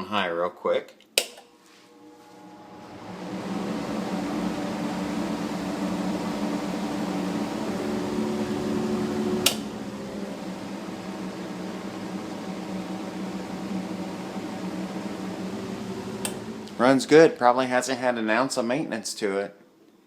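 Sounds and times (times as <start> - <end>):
exhaust fan motor hum: 1.2 - 18.0.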